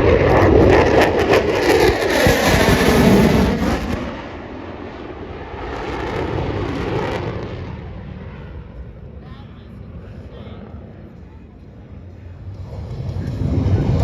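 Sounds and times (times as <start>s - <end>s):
jet engines passing: 0.0s - 14.0s.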